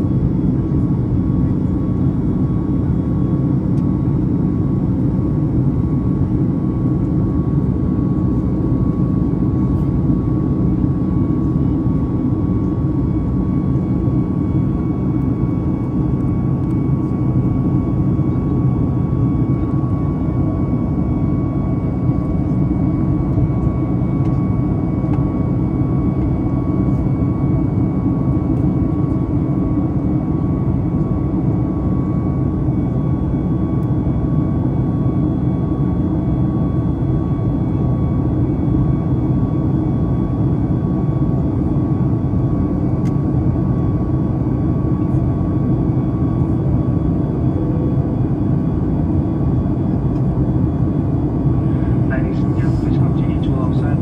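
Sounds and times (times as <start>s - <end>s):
airplane cabin engine rumble: 0.0s - 54.0s
faint high engine whine: 0.0s - 54.0s.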